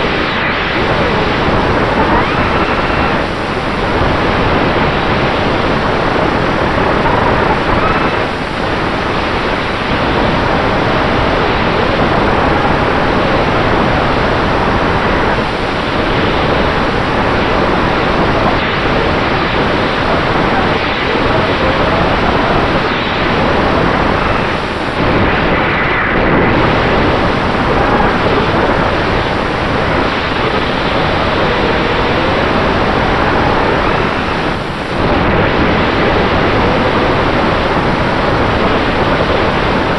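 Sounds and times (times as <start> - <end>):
rush of propeller wind noise: 0.0 - 39.9.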